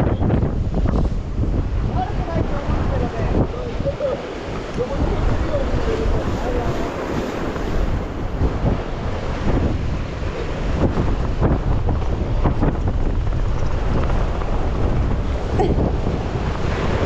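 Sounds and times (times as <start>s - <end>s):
surf breaking against rocks: 0.0s - 17.0s
wind buffeting microphone: 0.0s - 17.0s.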